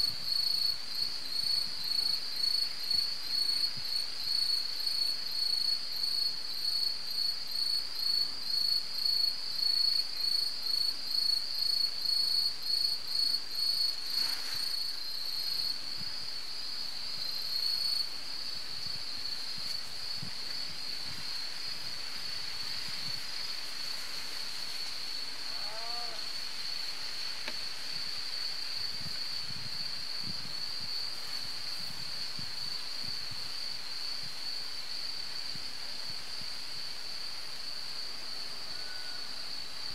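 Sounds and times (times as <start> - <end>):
insects chirping in a high trill: 0.0 - 39.9.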